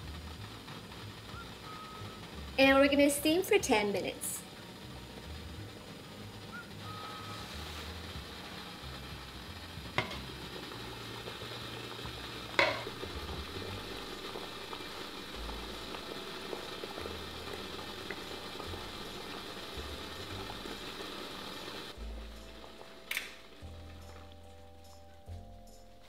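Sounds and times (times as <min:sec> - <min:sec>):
water boiling hiss: 0:00.0 - 0:26.0.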